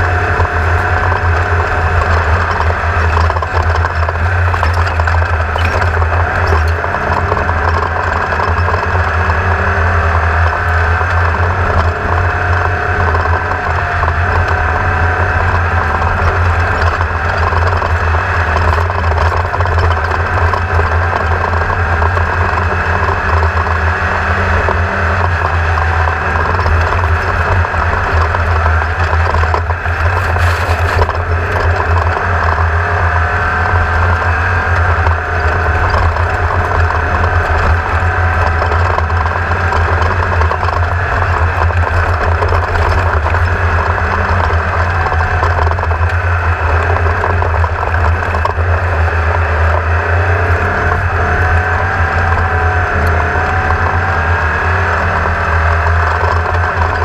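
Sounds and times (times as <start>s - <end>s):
noisy machine drone: 0.0s - 57.0s.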